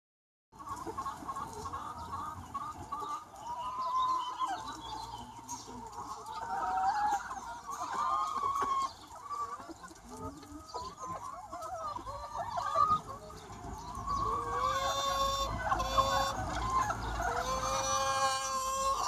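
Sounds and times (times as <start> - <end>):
chickens clucking and calling: 0.6 - 19.0.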